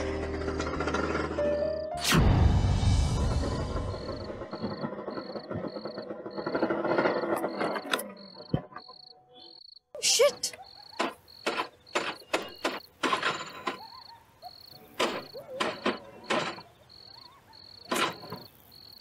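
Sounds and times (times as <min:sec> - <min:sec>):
crickets chirping: 0:03.2 - 0:19.0.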